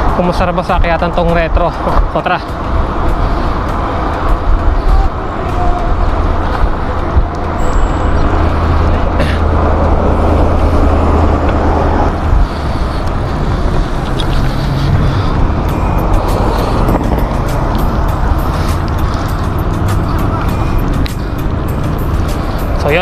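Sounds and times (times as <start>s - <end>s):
heavy low rumble: 0.0s - 23.0s
passing road traffic: 0.0s - 23.0s
wind rushing: 0.0s - 23.0s.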